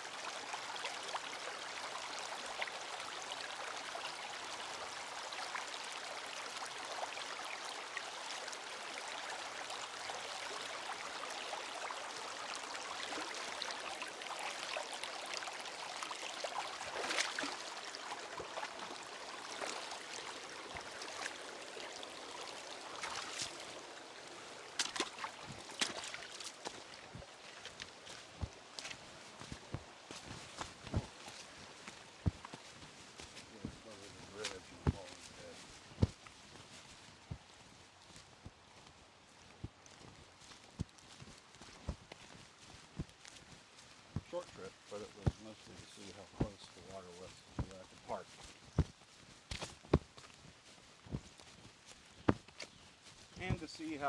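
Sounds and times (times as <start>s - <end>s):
rocky creek babbling: 0.0s - 54.0s.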